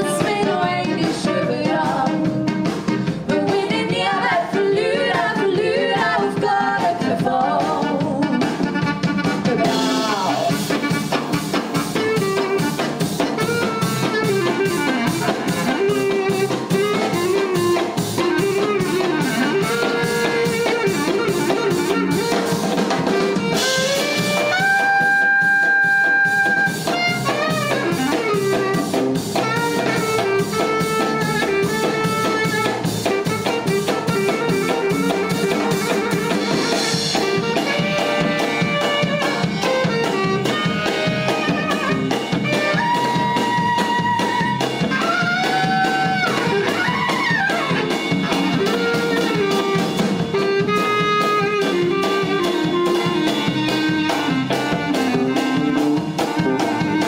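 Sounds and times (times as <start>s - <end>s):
upbeat instrumental music: 0.0s - 57.0s.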